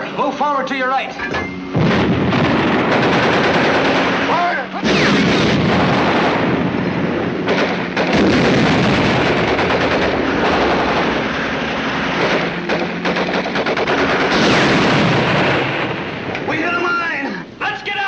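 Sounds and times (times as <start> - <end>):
tank engine drone: 0.0 - 17.9
shell bursts: 1.3 - 16.8
rapid machine-gun fire: 1.7 - 16.7.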